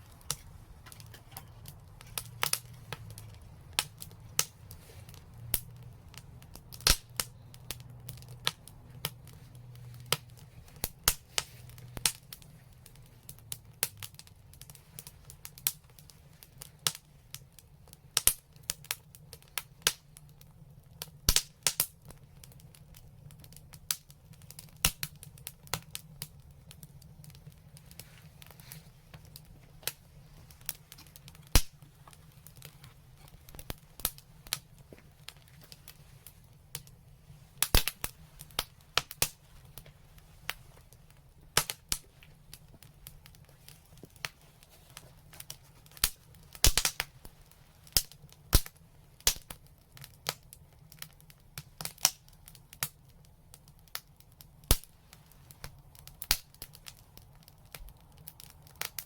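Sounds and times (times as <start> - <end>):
fire crackling with pops: 0.0 - 59.0.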